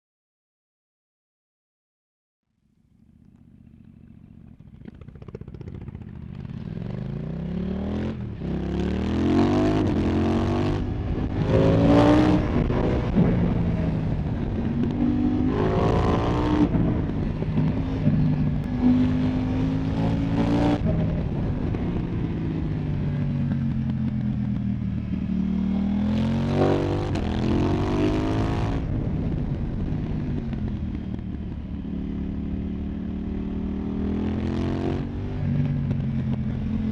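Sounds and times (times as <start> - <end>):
motorcycle engine revving: 2.9 - 36.9.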